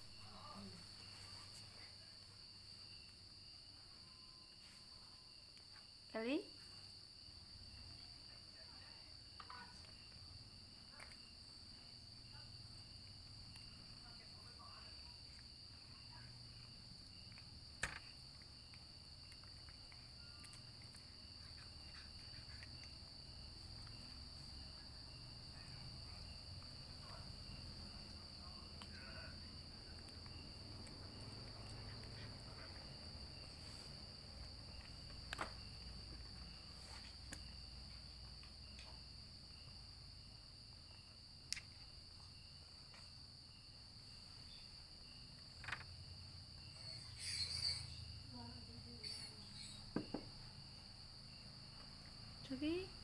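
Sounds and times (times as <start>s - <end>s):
insect chirring: 0.0s - 53.0s.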